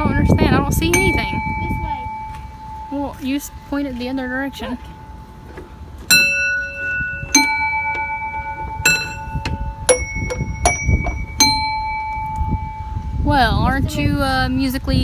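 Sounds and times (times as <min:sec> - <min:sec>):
ringing notes from music panel: 0:00.3 - 0:13.2.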